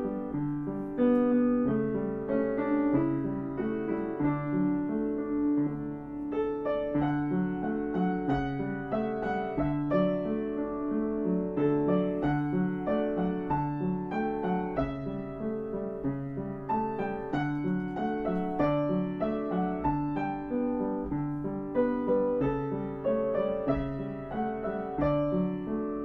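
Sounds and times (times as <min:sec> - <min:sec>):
background piano music: 0:00.0 - 0:26.0.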